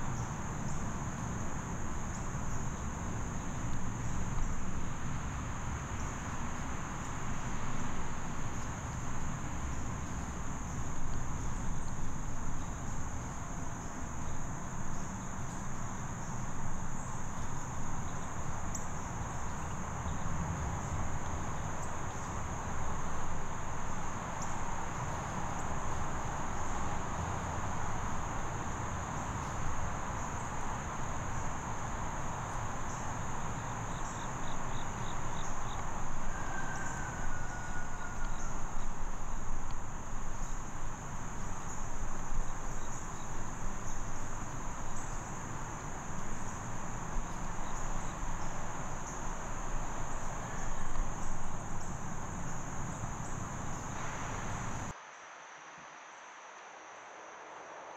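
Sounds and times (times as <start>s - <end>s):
low background rumble: 0.0s - 54.9s
crickets trilling: 0.0s - 55.0s.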